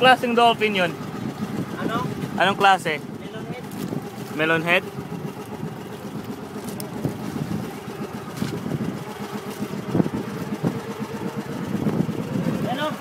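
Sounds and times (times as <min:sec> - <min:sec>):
boat engine running: 0:00.0 - 0:13.0
water noise: 0:00.0 - 0:13.0.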